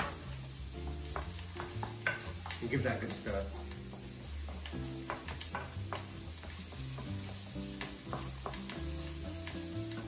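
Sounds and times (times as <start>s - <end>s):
background music with bass: 0.0s - 10.0s
onion and garlic sizzling in oil: 0.0s - 10.0s.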